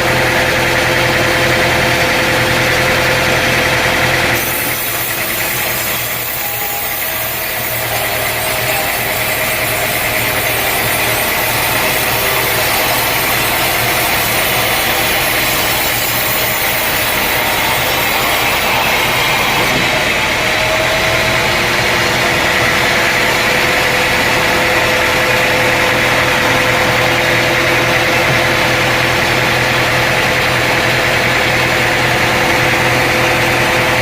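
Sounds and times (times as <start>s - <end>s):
engine hum: 0.0s - 34.0s
saw cutting: 0.0s - 34.0s
sawmill machinery running: 0.0s - 34.0s
steady whine: 0.0s - 34.0s.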